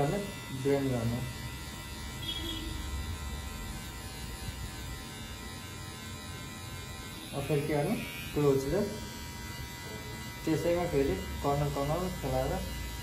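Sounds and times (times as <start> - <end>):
electric hair clipper humming: 0.0 - 13.0.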